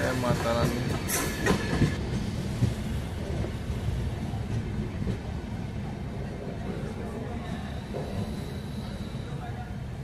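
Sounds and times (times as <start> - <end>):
train wheels rumbling on track: 0.0 - 10.0.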